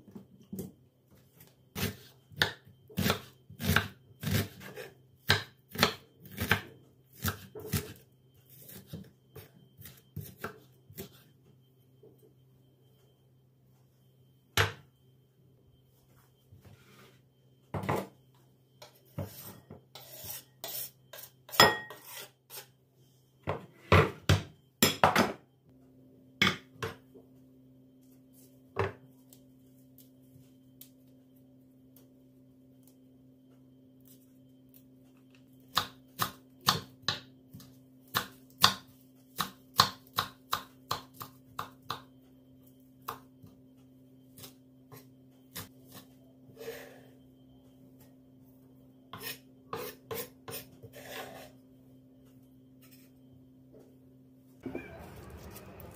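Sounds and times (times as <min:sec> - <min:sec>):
low steady hum: 0:00.0 - 0:39.3, 0:41.3 - 0:55.9.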